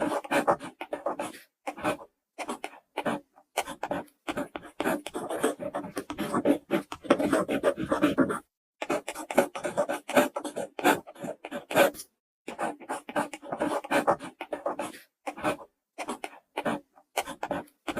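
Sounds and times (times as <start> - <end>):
pen scratching on paper: 0.0 - 17.9.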